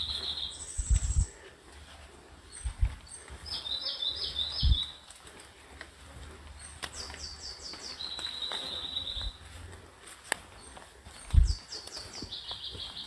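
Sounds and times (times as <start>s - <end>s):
birds singing: 0.0s - 1.5s, 2.1s - 5.7s, 6.3s - 13.0s.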